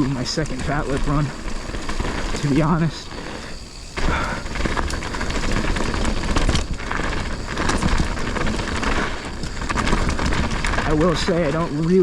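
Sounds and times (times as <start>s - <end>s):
bike rattling and clattering: 0.0s - 12.0s
bike tyres crunching over dirt: 0.0s - 12.0s.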